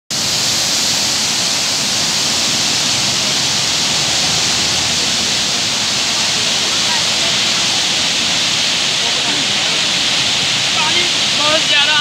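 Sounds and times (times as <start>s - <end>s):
loud rush of water: 0.1s - 12.0s.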